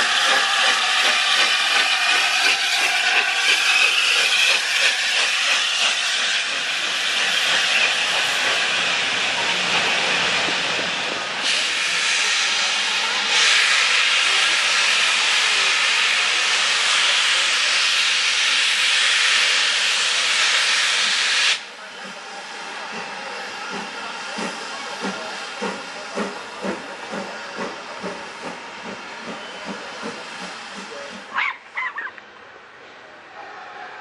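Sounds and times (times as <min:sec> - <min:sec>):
steam hissing from locomotive: 0:00.0 - 0:31.4.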